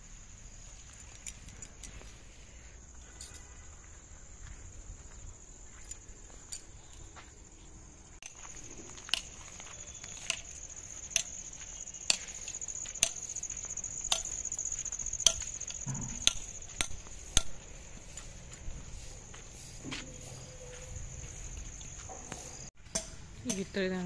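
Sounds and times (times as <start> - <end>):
crickets chirping: 0.0 - 24.0
footsteps on dirt path: 0.6 - 22.9.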